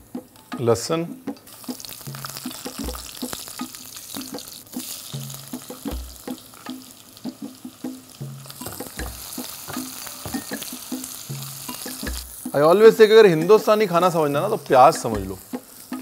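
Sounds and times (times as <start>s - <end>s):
background music with bass line: 0.0s - 13.5s
garlic sizzling in hot oil: 1.1s - 16.0s.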